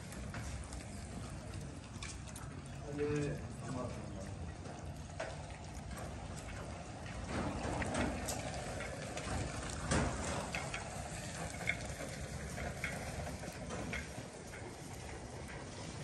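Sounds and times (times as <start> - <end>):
cats chewing wet food: 0.0 - 16.0.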